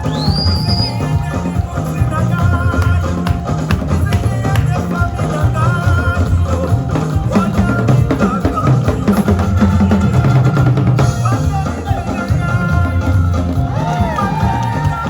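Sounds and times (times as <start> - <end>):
lofi afrobeat music: 0.0 - 15.0.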